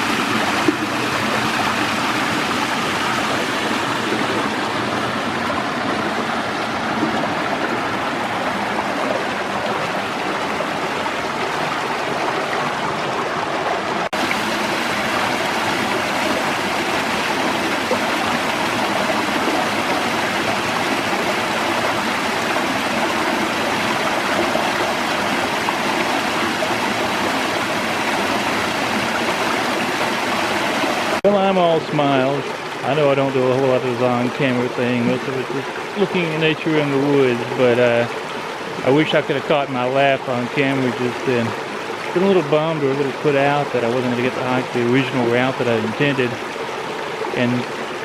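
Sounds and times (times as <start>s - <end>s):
water tumbling over cascade: 0.0s - 48.0s.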